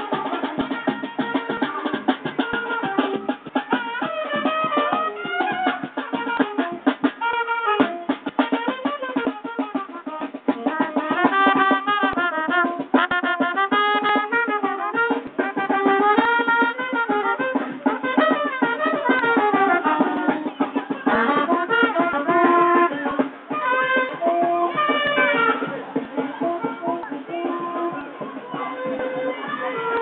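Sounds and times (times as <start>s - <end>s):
drums and percussion: 0.0s - 30.0s
saxophone melody: 0.0s - 30.0s.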